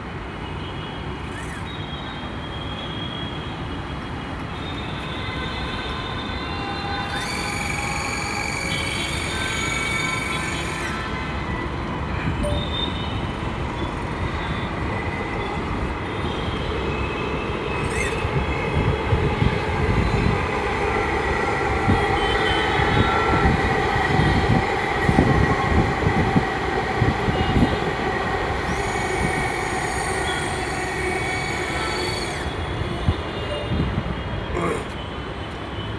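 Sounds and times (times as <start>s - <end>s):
metro train rumble and whine: 0.0s - 35.9s.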